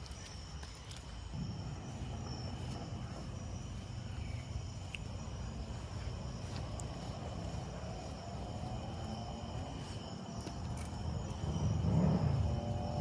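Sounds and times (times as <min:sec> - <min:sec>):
steady low rumble: 0:00.5 - 0:13.0.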